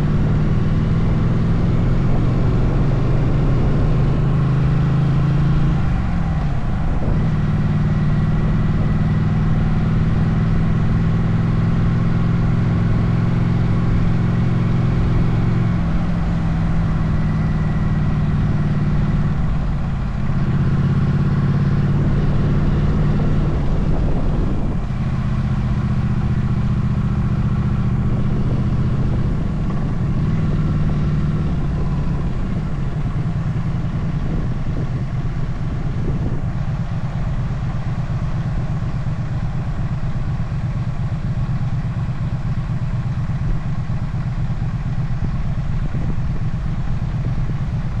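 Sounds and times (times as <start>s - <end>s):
motorcycle engine running: 0.0s - 48.0s
road and wind noise: 0.0s - 48.0s.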